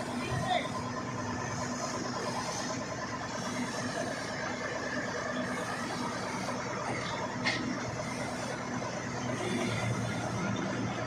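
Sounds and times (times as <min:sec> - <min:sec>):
heavy vehicle engine droning: 0:00.0 - 0:11.0.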